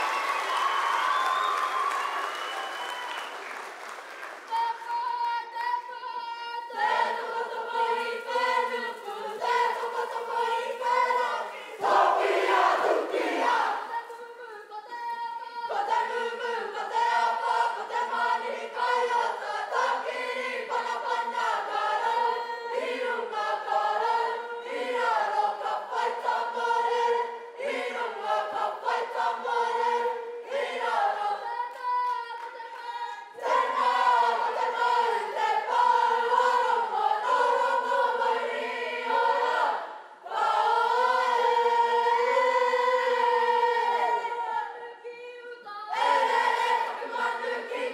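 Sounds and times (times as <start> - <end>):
group of voices singing: 4.5 - 47.9.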